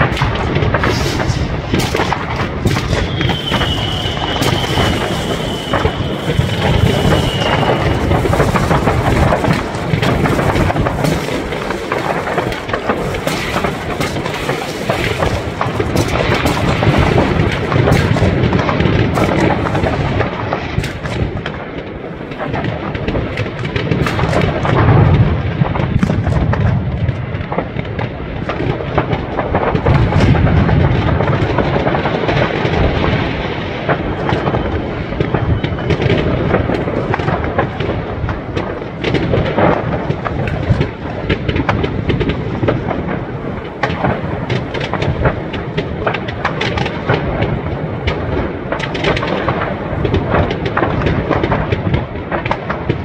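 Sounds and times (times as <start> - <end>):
distant fireworks booms: 0.0 - 53.0
fireworks bangs and crackling: 0.0 - 53.0.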